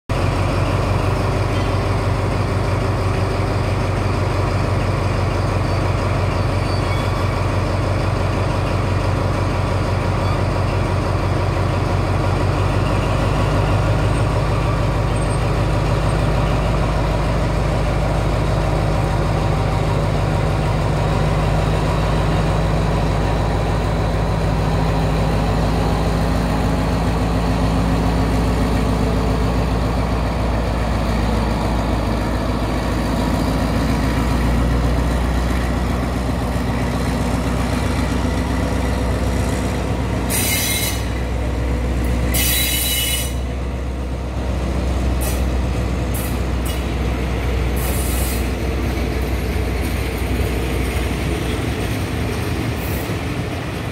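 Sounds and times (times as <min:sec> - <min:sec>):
locomotive engine running loudly: 0:00.1 - 0:53.9.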